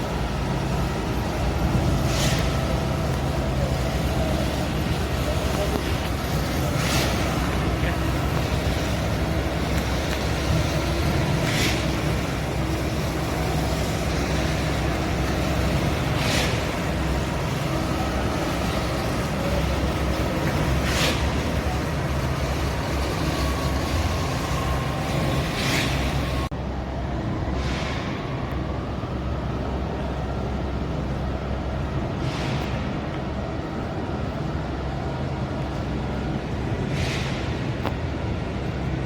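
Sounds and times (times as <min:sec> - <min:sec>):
road vehicles rumbling: 0:00.0 - 0:39.0.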